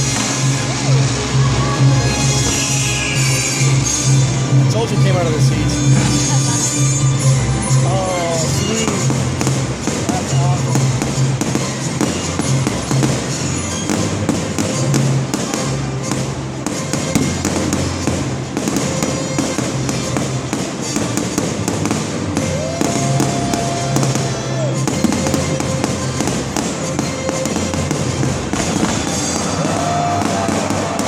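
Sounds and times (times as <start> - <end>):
fireworks bursting and crackling: 0.0 - 31.0
loud music: 0.0 - 31.0.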